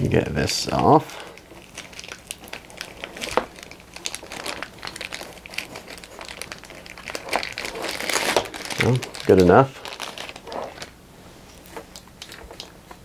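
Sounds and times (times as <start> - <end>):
plastic bag crinkling: 1.2 - 13.0.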